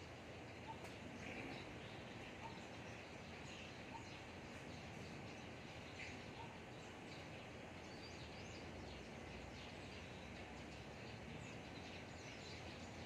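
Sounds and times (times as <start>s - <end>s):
faint outdoor background noise: 0.0s - 13.0s
faint high bird chirps: 0.4s - 13.0s.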